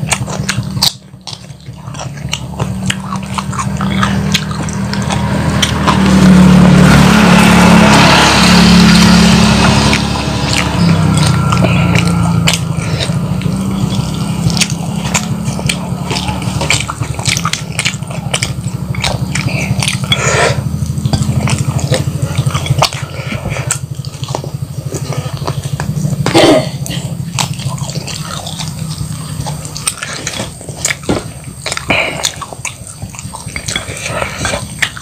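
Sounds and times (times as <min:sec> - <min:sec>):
wet mouth clicks and smacks: 0:00.0 - 0:08.2, 0:08.9 - 0:35.0
chewing crispy fried chicken: 0:00.0 - 0:35.0
steady low hum: 0:00.0 - 0:35.0.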